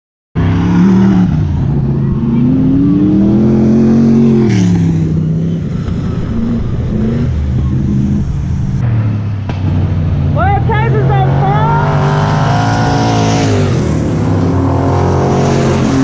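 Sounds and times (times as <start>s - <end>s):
race car engine passing by: 0.4s - 16.0s.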